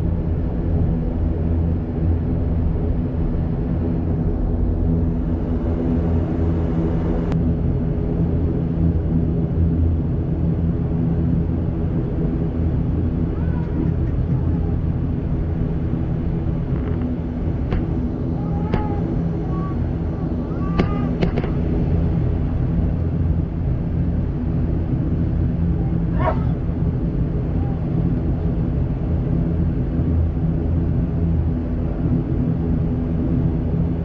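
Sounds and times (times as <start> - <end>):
turboprop engines droning: 0.0 - 34.0.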